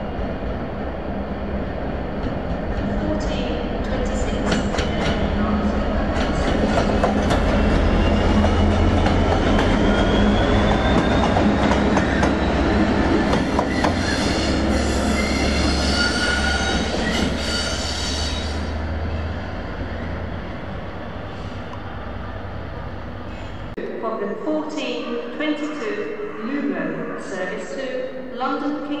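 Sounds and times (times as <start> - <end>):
locomotive engines droning: 0.0 - 23.9.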